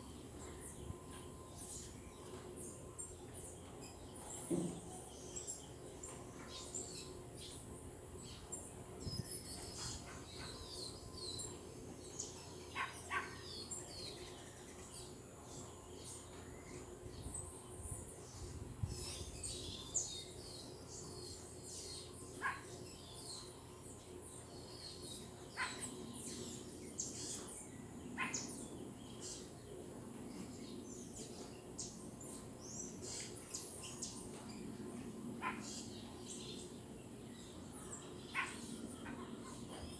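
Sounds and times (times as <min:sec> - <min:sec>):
tropical birds chirping: 0:00.0 - 0:39.9.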